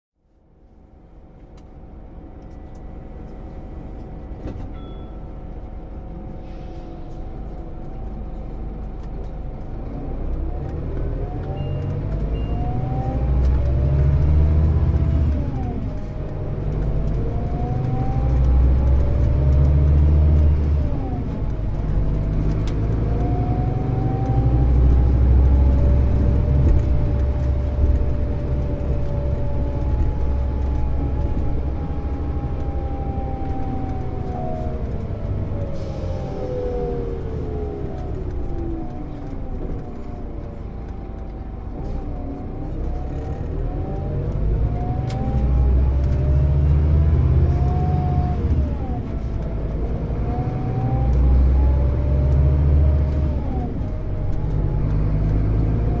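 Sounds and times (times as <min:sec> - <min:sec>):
bus diesel engine: 0:00.2 - 0:56.0.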